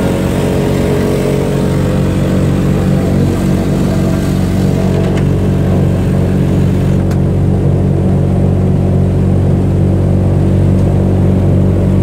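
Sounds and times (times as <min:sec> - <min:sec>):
aircraft piston engines droning: 0:00.0 - 0:12.0.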